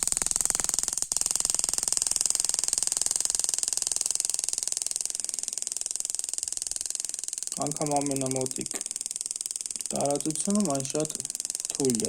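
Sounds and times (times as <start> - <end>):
sparks clicking across gap: 0.0 - 12.0.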